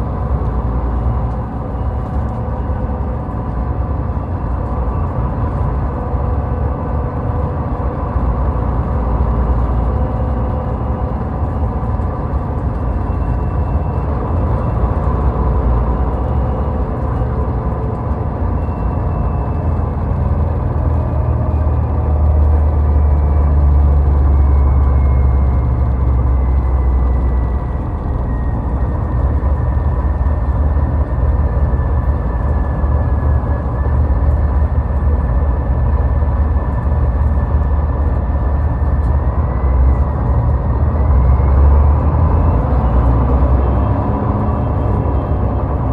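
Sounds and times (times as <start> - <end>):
car engine and tyres rumbling: 0.0 - 45.9.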